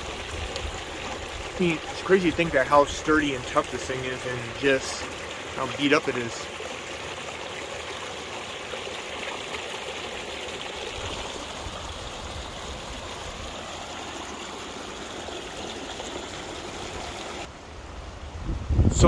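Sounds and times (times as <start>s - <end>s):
creek running over rocks: 0.0s - 17.6s.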